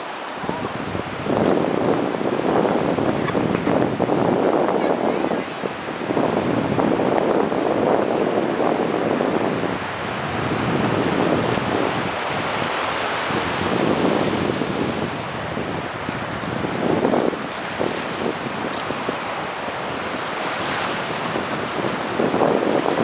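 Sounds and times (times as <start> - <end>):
small waves washing over sand: 0.0 - 23.0
wind on microphone: 0.0 - 23.0.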